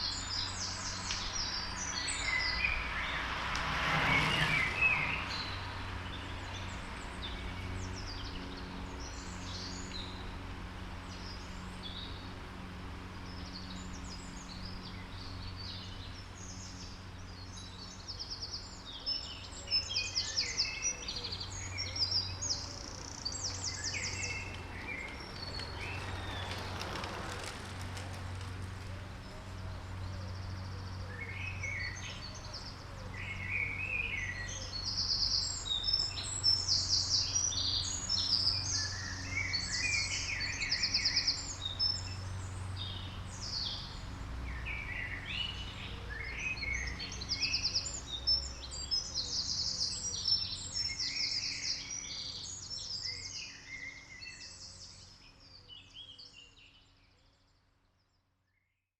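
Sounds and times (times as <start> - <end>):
songbirds chirping and trilling: 0.0 - 58.4.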